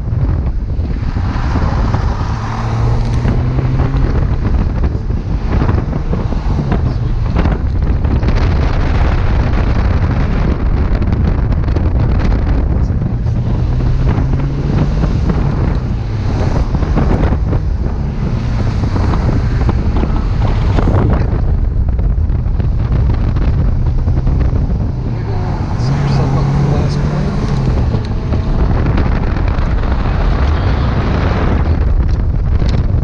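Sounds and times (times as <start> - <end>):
car engine running: 0.0 - 33.0
wind buffeting microphone: 0.0 - 33.0.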